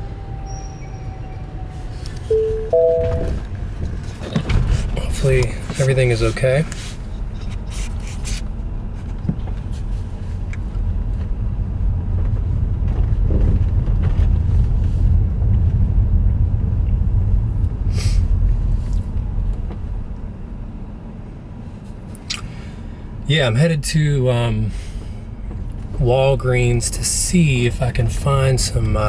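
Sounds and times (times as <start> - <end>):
road and tyre noise in car: 0.0 - 29.0.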